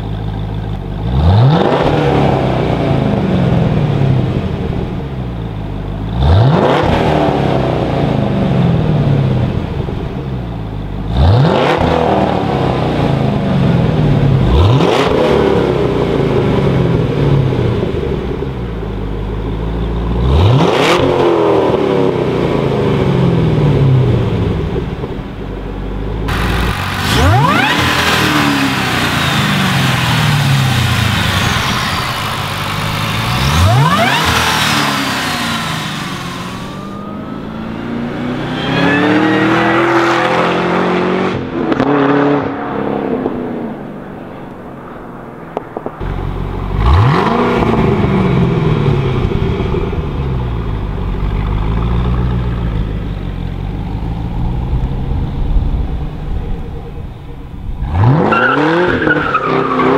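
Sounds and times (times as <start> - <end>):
car accelerating: 0.0 - 59.9
car engine revving: 0.0 - 59.9.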